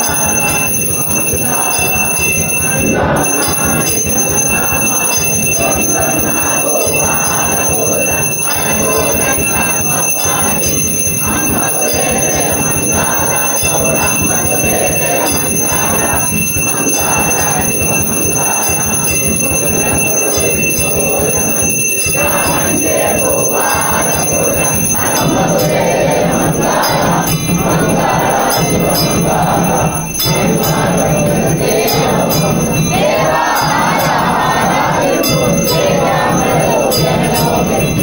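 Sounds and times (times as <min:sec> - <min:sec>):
bells ringing: 0:00.0 - 0:38.0
voices: 0:00.0 - 0:38.0.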